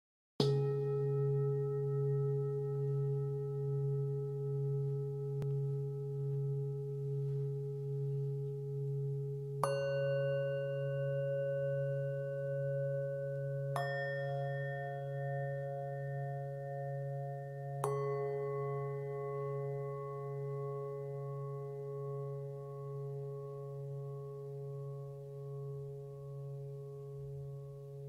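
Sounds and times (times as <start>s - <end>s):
singing bowls ringing: 0.5s - 28.0s.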